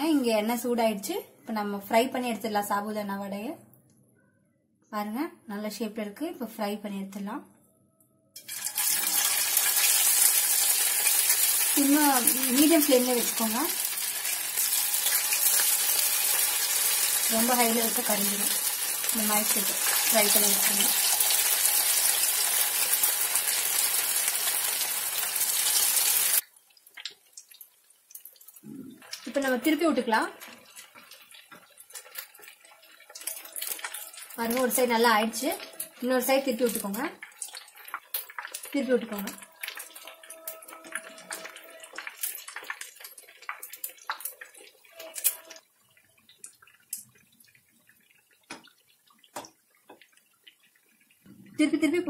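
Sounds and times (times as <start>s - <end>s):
hot oil sizzling: 8.4s - 51.1s.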